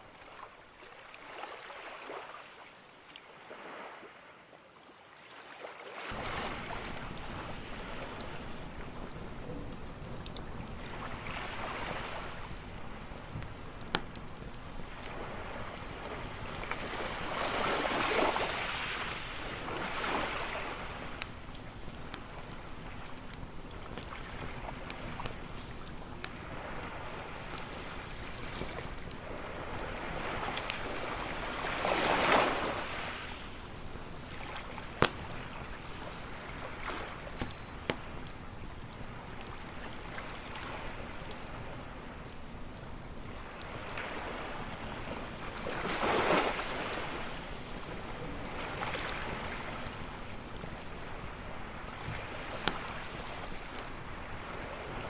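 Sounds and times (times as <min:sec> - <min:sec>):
sea waves washing onto shore: 0:00.0 - 0:04.4, 0:05.1 - 0:55.0
crackling campfire: 0:00.0 - 0:55.0.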